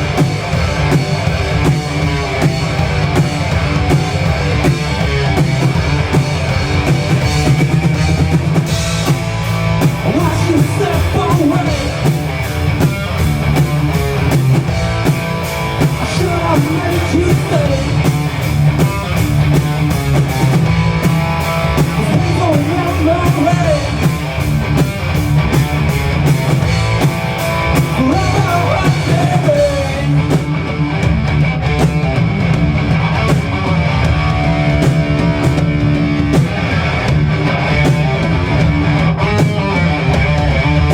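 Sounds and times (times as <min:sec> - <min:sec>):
bass guitar: 0:00.0 - 0:40.9
drum kit: 0:00.0 - 0:40.9
electric guitar: 0:00.0 - 0:40.9.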